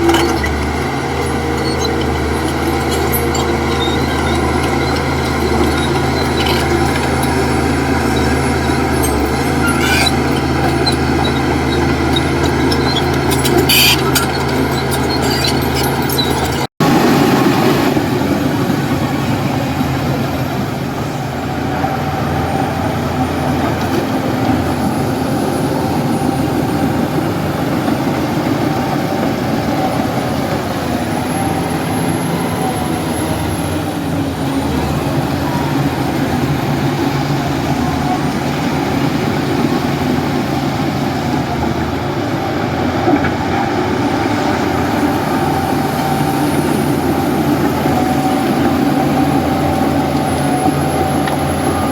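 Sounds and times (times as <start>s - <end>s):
heavy diesel machinery engine drone: 0.0s - 51.9s.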